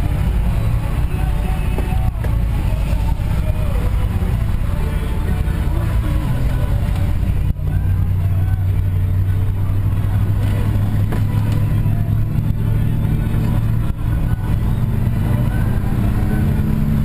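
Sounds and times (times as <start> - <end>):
engine and road drone in truck cabin: 0.0 - 17.0.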